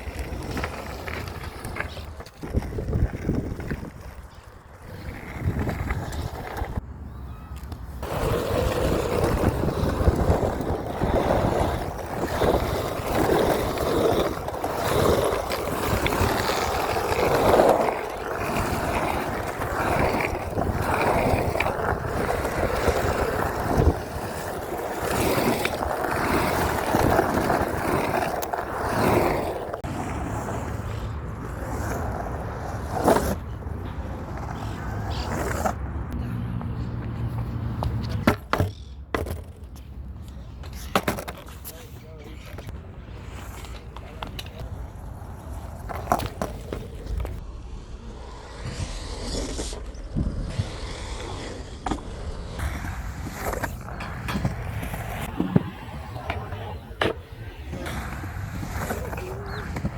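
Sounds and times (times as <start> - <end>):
skateboard wheels rolling on pavement: 0.0 - 59.9.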